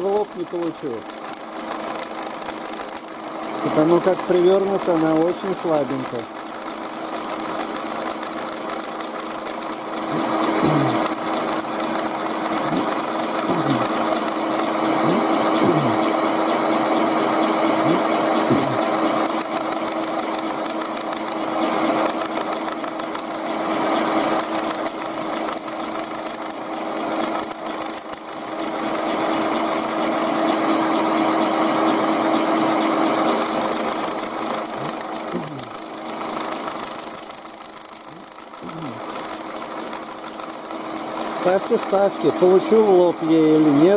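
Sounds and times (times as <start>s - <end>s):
milling machine motor hum: 0.0s - 43.9s.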